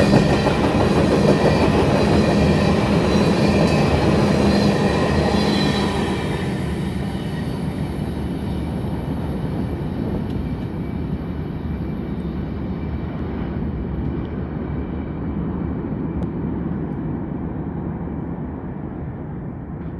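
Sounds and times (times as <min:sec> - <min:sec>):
freight train cars rolling past: 0:00.0 - 0:19.9.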